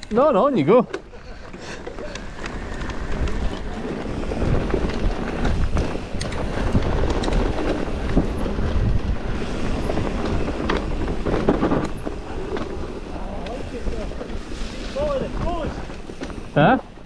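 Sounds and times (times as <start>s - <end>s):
low rumble of bike tyres: 0.0s - 17.0s
wind buffeting microphone: 1.2s - 17.0s.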